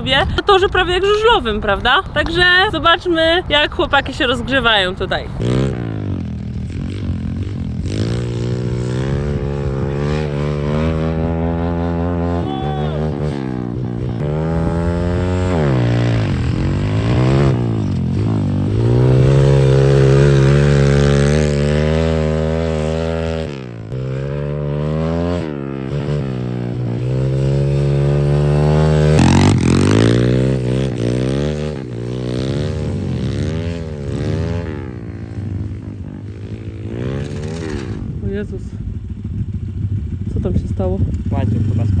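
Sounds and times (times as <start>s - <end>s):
pit bike engines revving: 0.0s - 42.0s.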